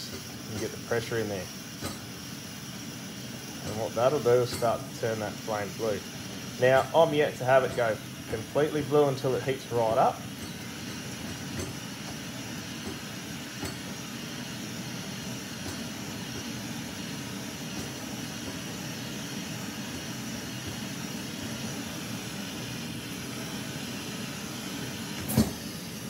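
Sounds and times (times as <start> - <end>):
stove burner hissing: 0.0 - 26.0.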